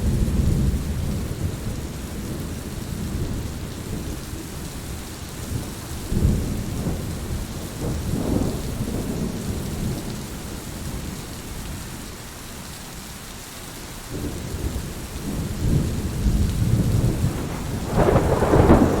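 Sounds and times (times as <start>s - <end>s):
thunder rumbling: 0.0s - 11.2s, 14.1s - 19.0s
heavy rain: 0.0s - 19.0s.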